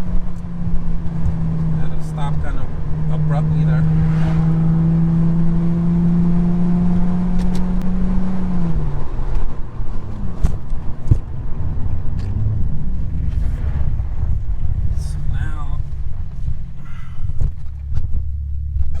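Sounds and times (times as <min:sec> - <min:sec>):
car engine droning: 0:00.0 - 0:19.0
road rumble: 0:00.0 - 0:19.0.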